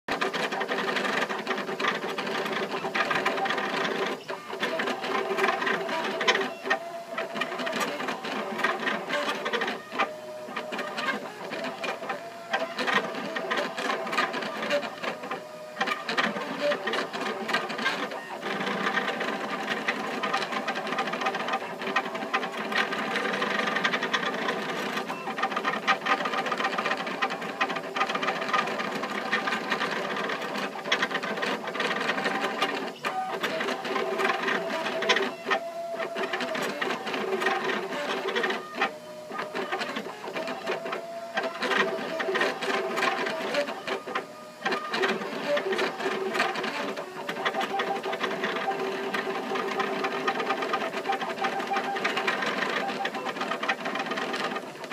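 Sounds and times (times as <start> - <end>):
printer stepper motors whining: 0.1 - 54.9.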